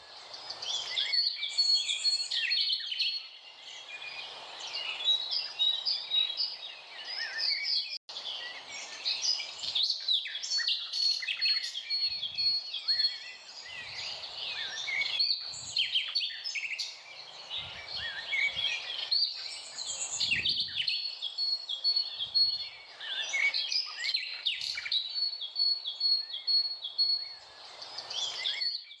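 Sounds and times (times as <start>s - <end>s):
birds chirping and trilling: 0.0s - 29.0s.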